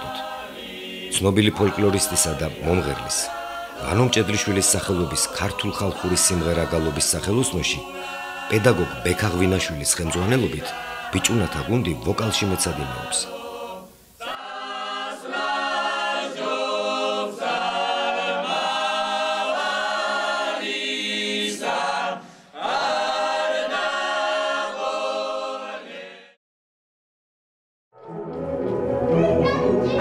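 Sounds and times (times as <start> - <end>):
boys' choir singing a cappella: 0.0 - 26.4.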